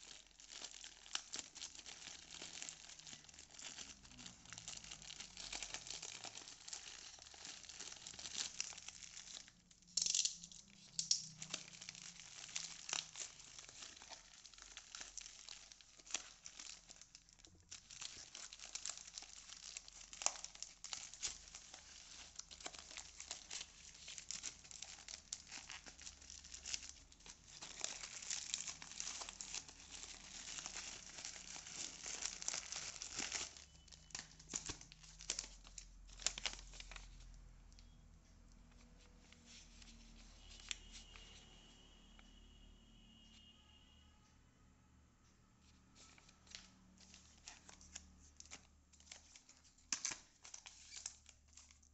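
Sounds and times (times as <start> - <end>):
plastic ripping: 0.0 - 37.4, 46.0 - 51.9
plastic bag crinkling: 0.0 - 38.0, 46.0 - 51.9.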